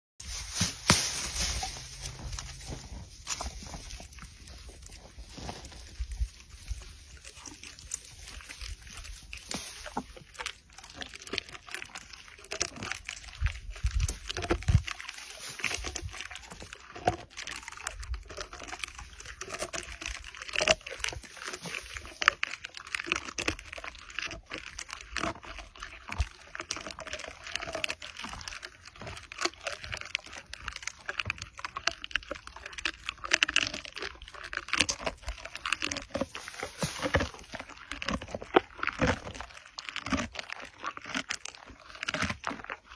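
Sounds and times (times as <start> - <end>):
camel chewing twigs: 0.2 - 42.9.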